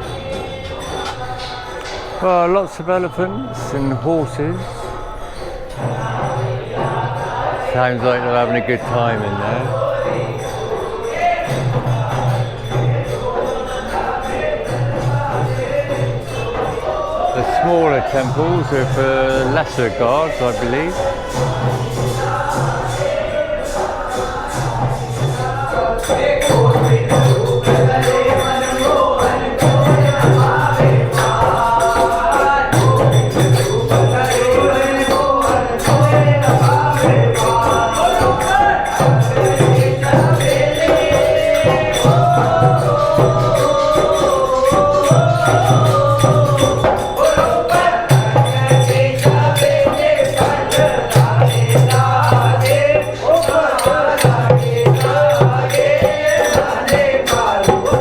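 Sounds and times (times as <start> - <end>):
group chanting a melody: 0.0 - 58.0
jingling percussion: 0.0 - 58.0.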